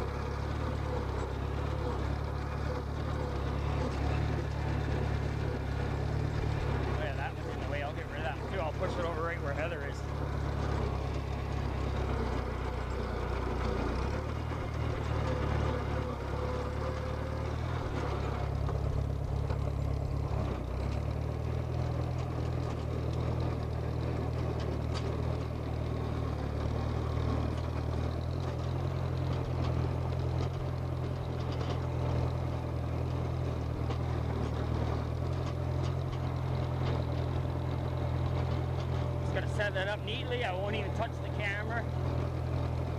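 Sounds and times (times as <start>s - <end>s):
bulldozer engine running: 0.0s - 42.9s.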